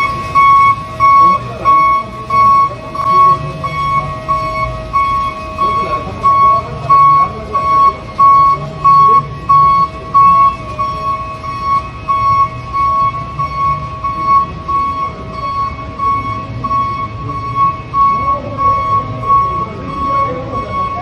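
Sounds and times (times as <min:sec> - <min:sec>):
high-pitched electronic beeping: 0:00.0 - 0:21.0.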